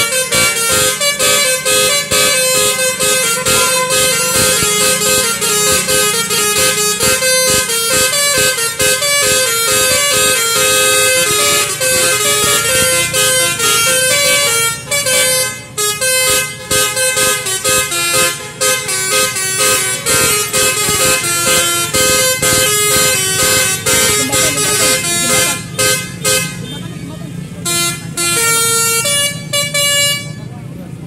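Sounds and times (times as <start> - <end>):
multi-tone bus horn melody: 0.0 - 31.0.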